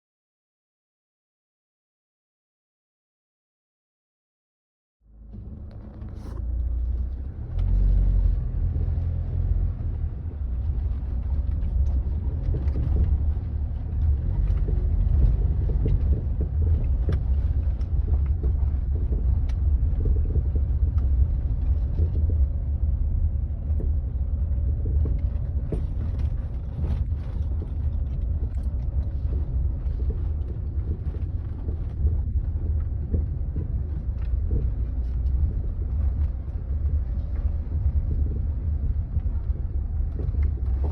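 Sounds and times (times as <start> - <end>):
low road rumble: 5.0 - 40.9.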